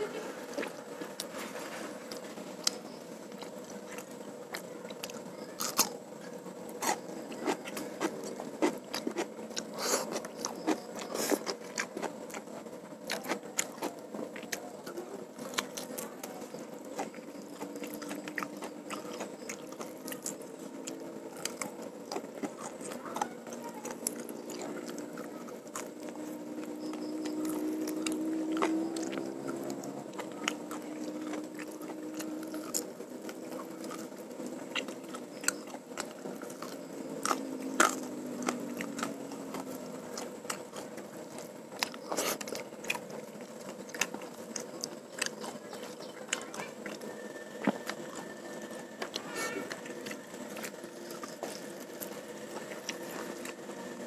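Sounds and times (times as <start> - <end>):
close chewing and crunching: 0.0 - 54.0
low steady hum: 0.0 - 54.0.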